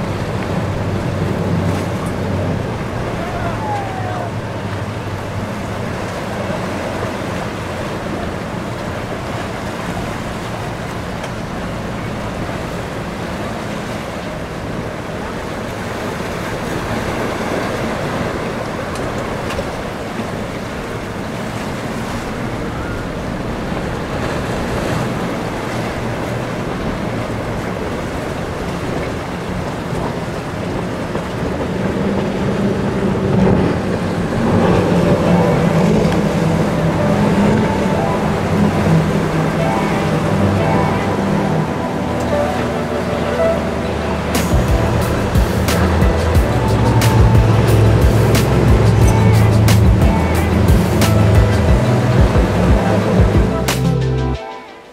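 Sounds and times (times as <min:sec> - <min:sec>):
wind on microphone: 0:00.0 - 0:54.4
boat engine drone: 0:00.0 - 0:54.9
surf and spray rushing: 0:00.0 - 0:54.9.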